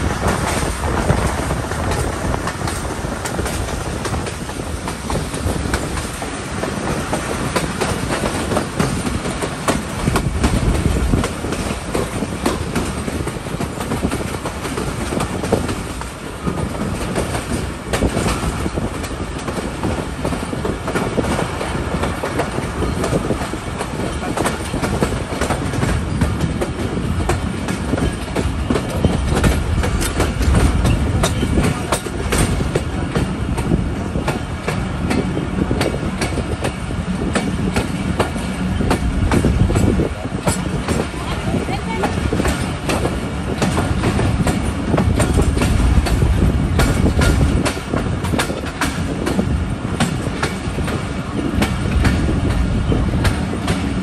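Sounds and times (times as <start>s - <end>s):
train rumble: 0.0s - 54.0s
wheels clattering over rail joints: 0.0s - 54.0s.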